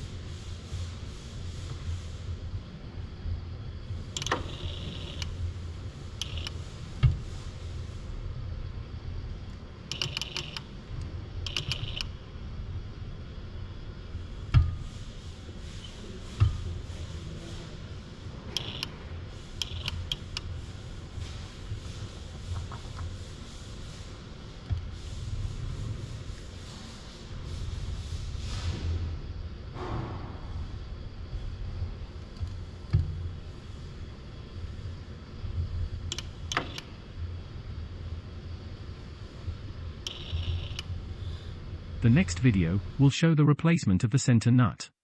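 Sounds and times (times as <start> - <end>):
steady low hum: 0.0 - 44.8.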